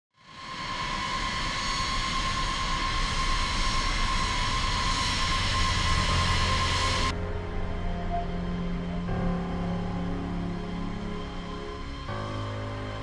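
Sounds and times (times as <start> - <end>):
jet engines rushing and whining: 0.3 - 13.0.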